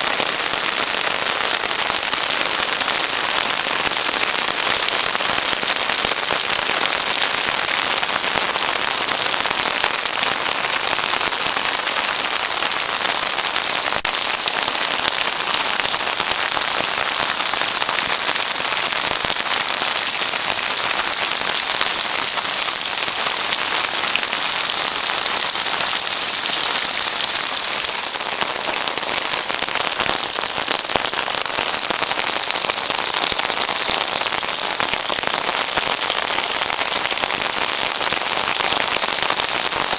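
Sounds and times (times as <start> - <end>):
heavy rain splashing on rooftop: 0.0 - 39.9.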